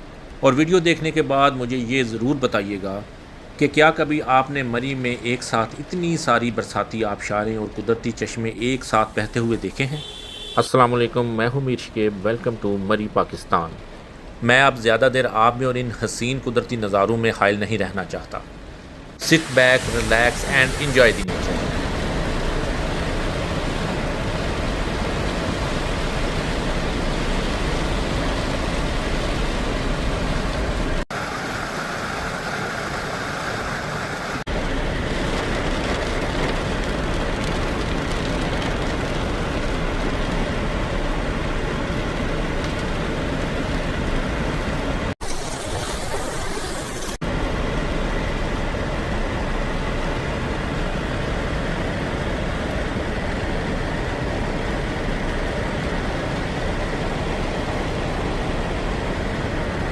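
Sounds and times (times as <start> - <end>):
car driving in heavy rain: 0.0 - 14.5, 17.9 - 59.9
hissy water-like noise: 0.0 - 59.9.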